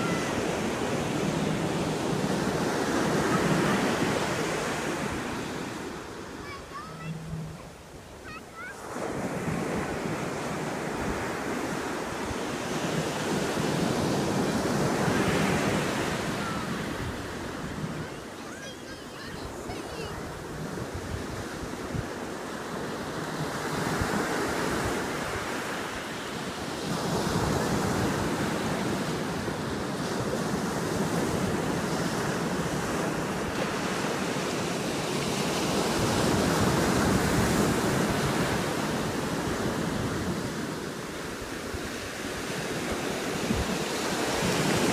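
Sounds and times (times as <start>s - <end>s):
sea waves washing on shore: 0.0s - 44.9s.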